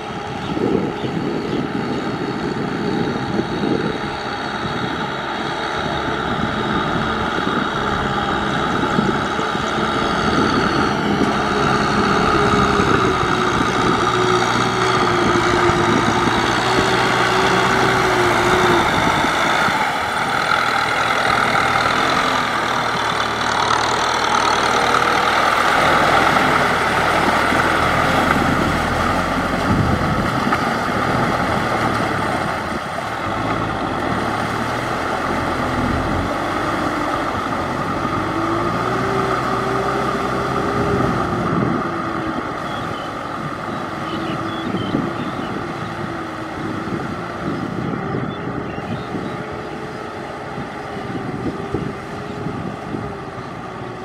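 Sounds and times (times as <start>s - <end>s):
tractor engines running: 0.0s - 54.0s.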